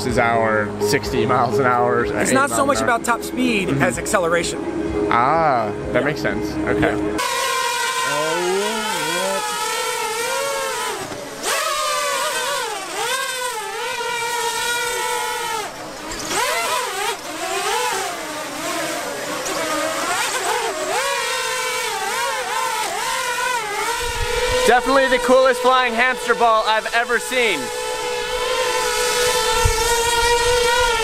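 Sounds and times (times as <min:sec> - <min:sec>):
drone propellers buzzing: 0:00.0 - 0:31.0.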